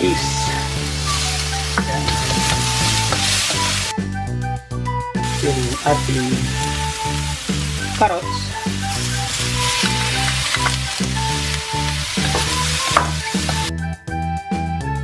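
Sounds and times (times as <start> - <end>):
vegetables sizzling in hot oil: 0.0 - 3.9, 5.2 - 13.7
background music with steady beat: 0.0 - 15.0
wooden spatula stirring in a wok: 0.1 - 3.9, 5.3 - 13.7.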